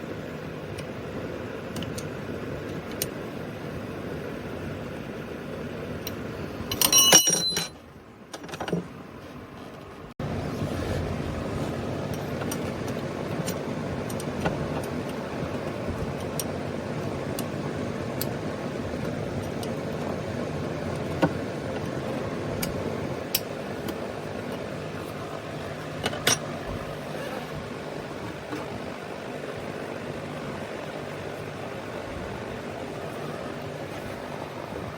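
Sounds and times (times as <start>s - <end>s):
steady mechanical whirring: 0.0s - 34.9s.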